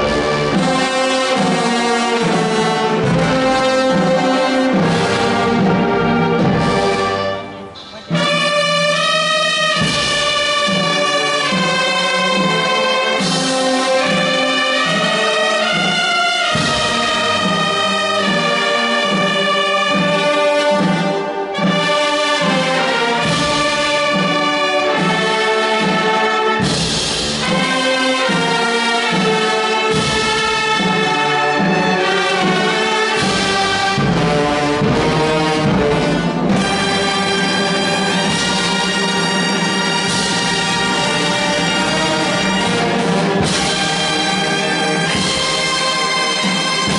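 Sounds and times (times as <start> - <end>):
wind band playing: 0.0 - 46.9.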